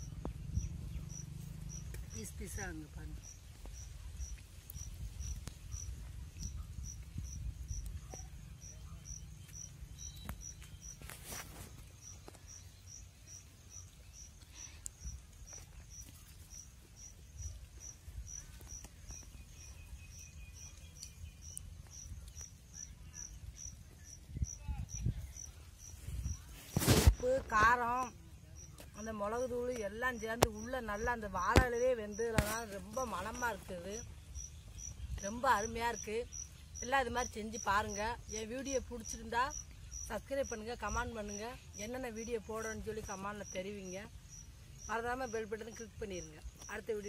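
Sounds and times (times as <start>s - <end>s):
cricket chirping: 0.0s - 47.0s.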